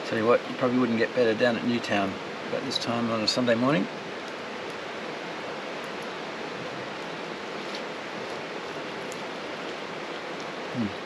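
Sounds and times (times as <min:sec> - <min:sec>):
flowing river: 0:00.0 - 0:11.0.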